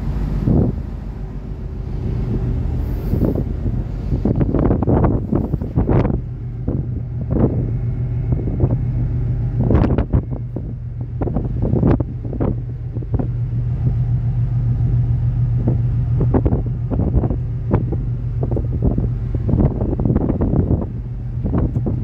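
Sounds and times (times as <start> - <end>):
ship machinery hum: 0.0 - 22.0
wind buffeting microphone: 0.0 - 22.0.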